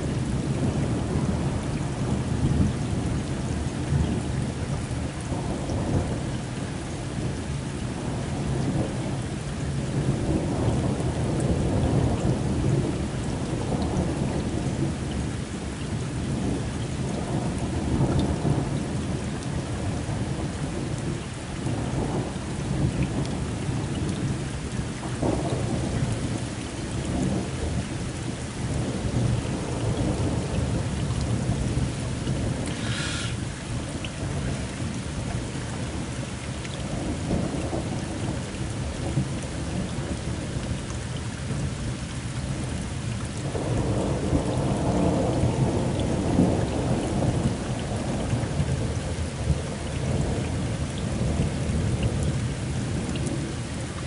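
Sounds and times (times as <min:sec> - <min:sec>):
low rolling thunder: 0:00.0 - 0:07.3, 0:08.0 - 0:36.2, 0:36.8 - 0:54.0
heavy rain: 0:00.0 - 0:54.0.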